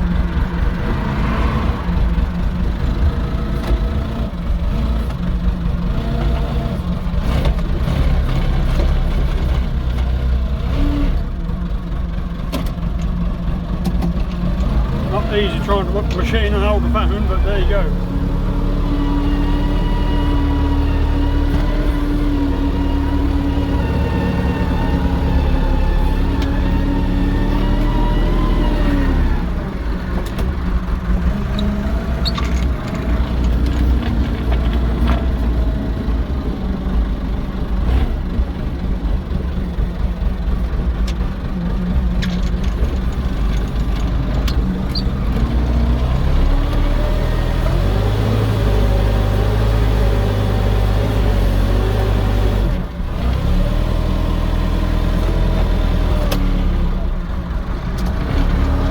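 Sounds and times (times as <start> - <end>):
diesel tractor engine running: 0.0 - 58.9.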